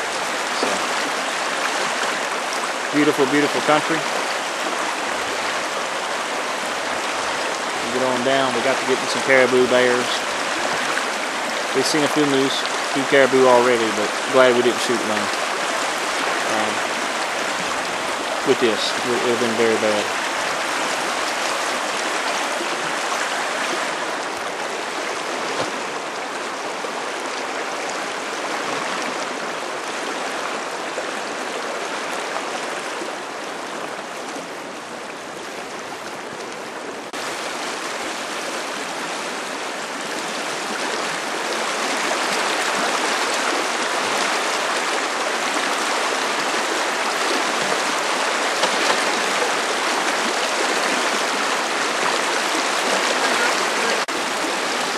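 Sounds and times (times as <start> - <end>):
river rushing over rocks: 0.0 - 54.9.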